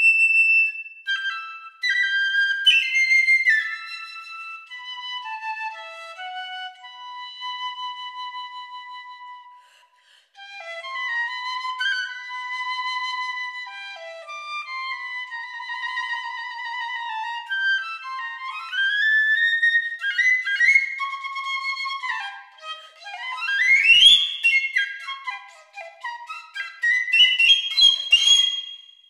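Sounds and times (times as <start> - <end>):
solo piccolo melody: 0.0 - 9.8, 10.4 - 29.0.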